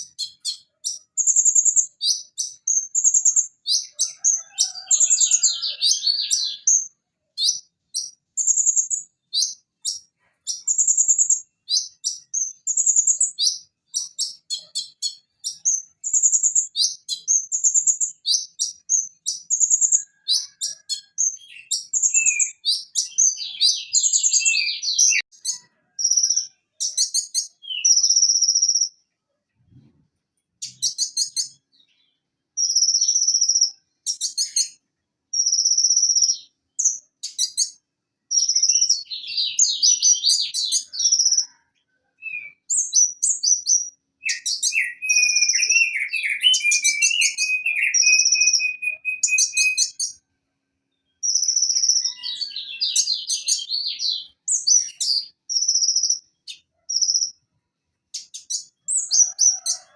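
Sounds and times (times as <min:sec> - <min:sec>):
sunbird singing chirps and trills: 0:00.0 - 0:29.0, 0:30.6 - 0:41.6, 0:42.2 - 0:50.2, 0:50.9 - 0:57.5, 0:58.1 - 0:59.8.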